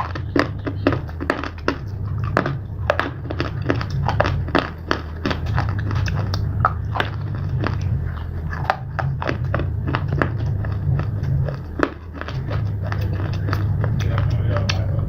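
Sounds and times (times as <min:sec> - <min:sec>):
chewing crunchy pieces: 0:00.0 - 0:15.0
steady low hum: 0:00.0 - 0:15.0.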